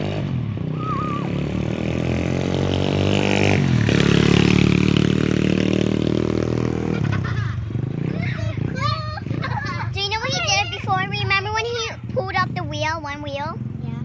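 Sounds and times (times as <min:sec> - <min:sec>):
motorbike engine revving past: 0:00.0 - 0:12.6.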